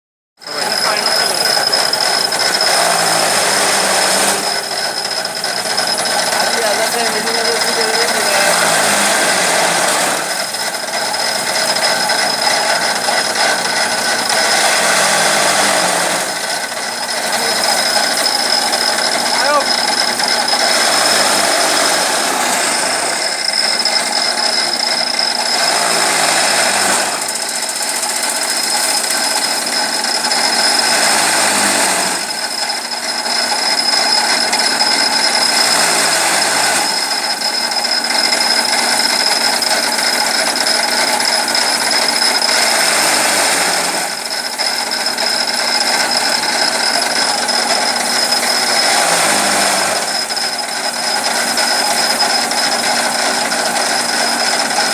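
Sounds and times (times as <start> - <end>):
chaff cutter machine whining: 0.4 - 54.9.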